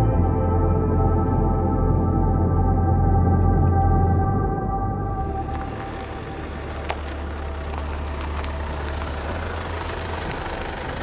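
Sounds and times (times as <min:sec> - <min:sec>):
van engine humming: 0:00.0 - 0:11.0.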